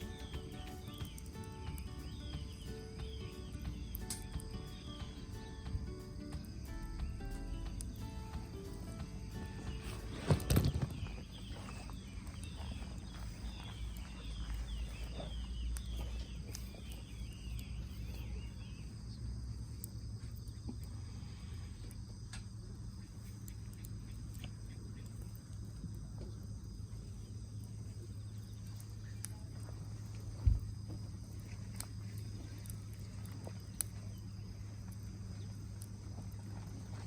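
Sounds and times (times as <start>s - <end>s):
fire crackles and clicks: 0.0s - 21.0s, 21.7s - 37.0s
insect chirps: 0.0s - 37.0s
low steady hum: 0.0s - 37.0s.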